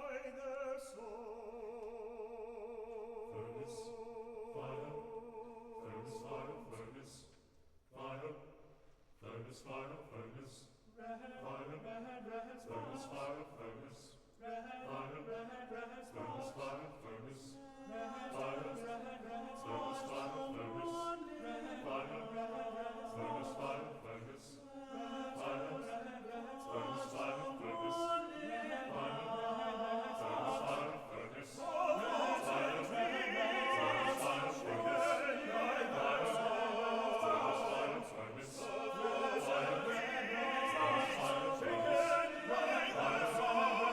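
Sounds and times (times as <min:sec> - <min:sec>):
male chorus singing chords: 0:00.0 - 0:07.3, 0:08.0 - 0:43.9.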